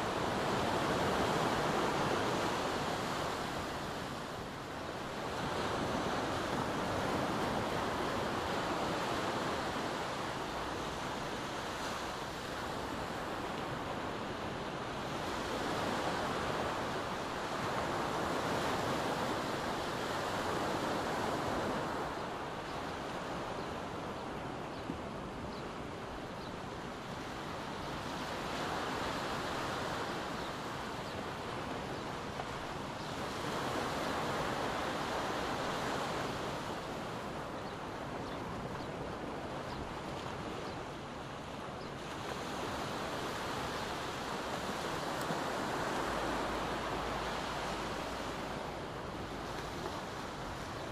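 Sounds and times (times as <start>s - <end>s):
small waves breaking on beach: 0.0s - 50.9s.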